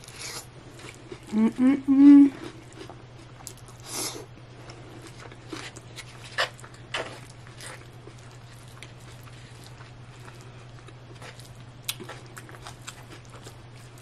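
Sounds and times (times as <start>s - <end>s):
chewing: 2.3s - 14.0s.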